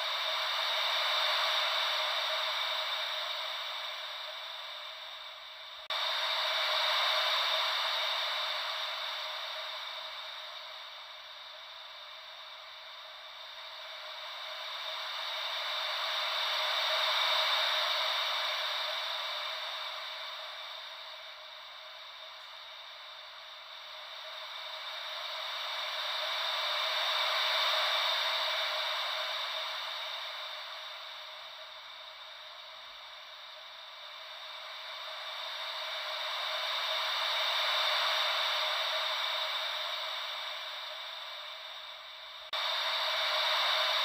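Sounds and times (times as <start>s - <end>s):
ocean wave white noise: 0.0s - 44.0s.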